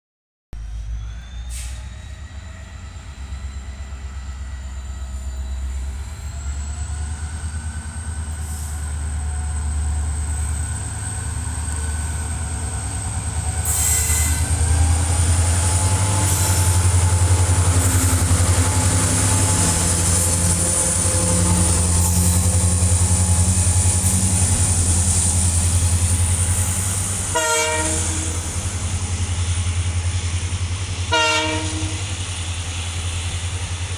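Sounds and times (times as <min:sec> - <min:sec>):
diesel locomotive engine humming: 0:00.6 - 0:33.9.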